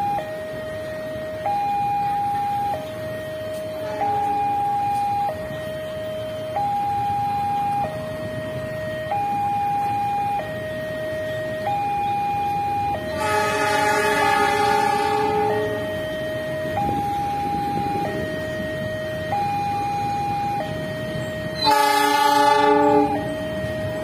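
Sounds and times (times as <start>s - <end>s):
train passing: 0.0s - 24.0s
two-tone level crossing alarm: 0.0s - 24.0s.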